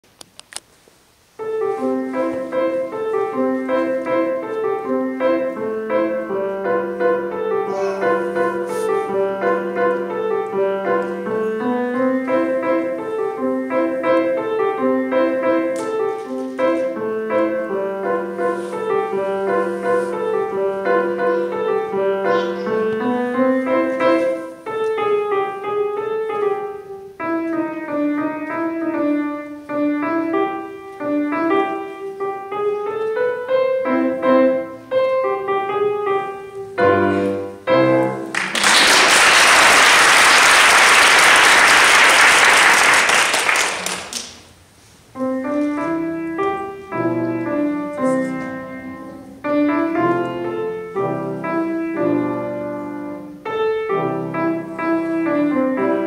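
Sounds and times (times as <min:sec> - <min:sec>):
solo grand piano: 0:01.1 - 0:56.0.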